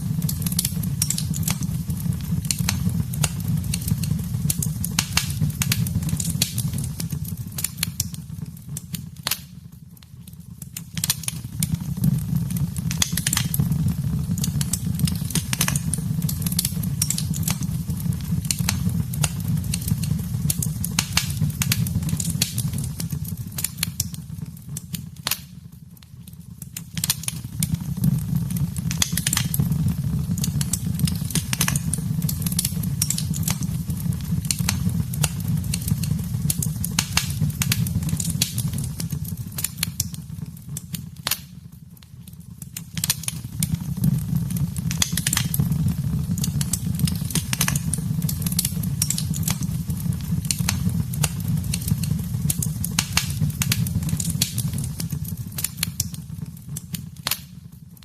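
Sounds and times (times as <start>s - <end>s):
fire popping and snapping: 0.0s - 58.0s
low rumble of flames: 0.0s - 58.0s
wood fire crackling: 0.0s - 58.0s.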